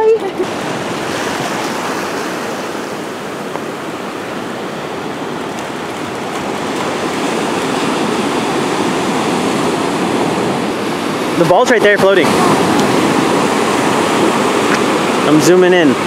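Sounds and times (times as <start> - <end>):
ocean surf washing ashore: 0.0 - 16.0.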